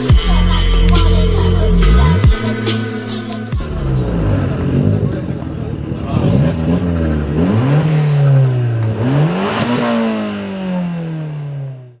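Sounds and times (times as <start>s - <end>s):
car engine revving: 1.1s - 12.0s.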